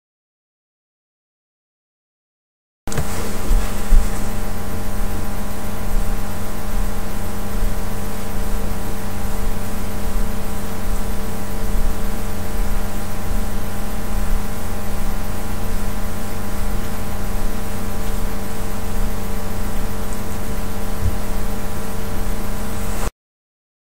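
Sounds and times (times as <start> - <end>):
mechanical whir with hum: 2.9 - 23.1.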